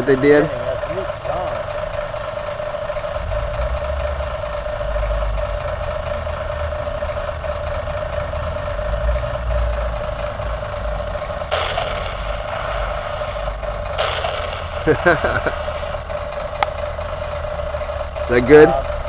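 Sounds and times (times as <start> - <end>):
model tank humming: 0.0 - 19.0
harsh whirring: 0.2 - 19.0.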